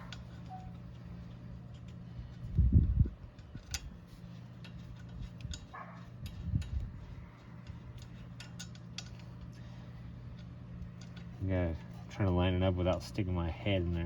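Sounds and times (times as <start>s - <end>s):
metal parts clicking and clinking: 0.0s - 2.5s, 3.2s - 13.2s.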